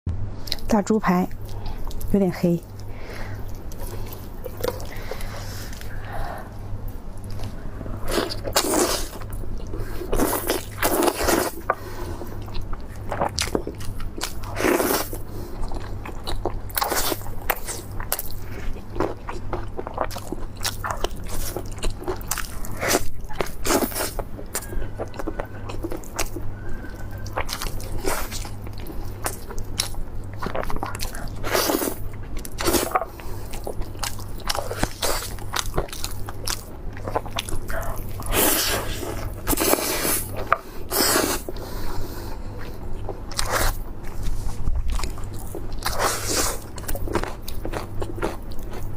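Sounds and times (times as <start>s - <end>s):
person chewing and crunching meat: 1.3s - 48.9s.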